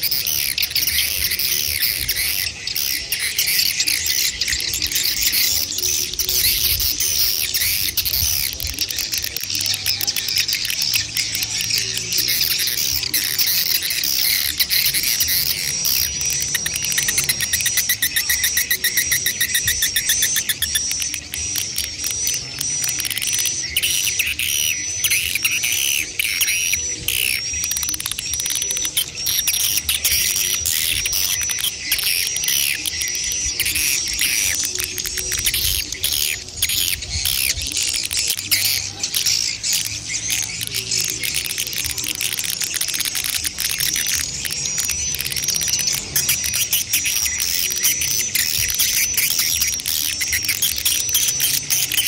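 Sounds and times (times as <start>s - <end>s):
high repeated chirp: 0.0s - 52.0s
rasping twitters: 0.0s - 52.0s
swiftlets chirping: 0.0s - 52.0s.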